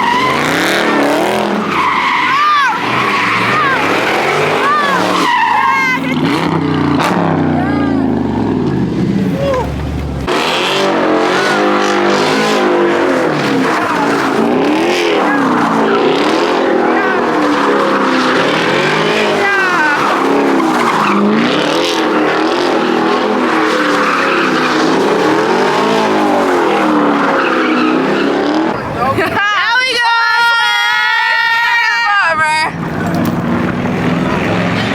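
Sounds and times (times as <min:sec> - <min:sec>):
tyres squealing on pavement: 0:00.0 - 0:10.6, 0:11.5 - 0:34.9
car engine revving: 0:00.0 - 0:29.4, 0:32.7 - 0:34.9.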